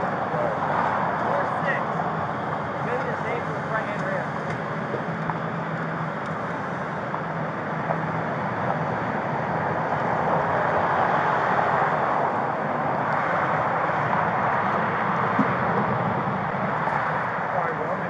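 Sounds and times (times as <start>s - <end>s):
freeway traffic rush: 0.0s - 18.0s
low engine hum: 0.0s - 18.0s.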